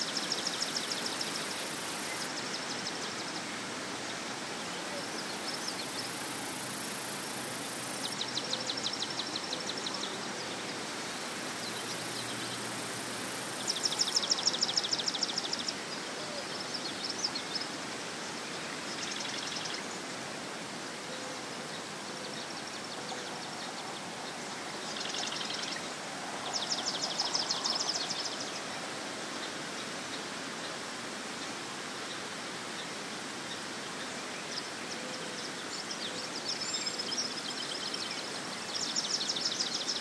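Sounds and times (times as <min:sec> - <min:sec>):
steady background noise: 0:00.0 - 0:35.8.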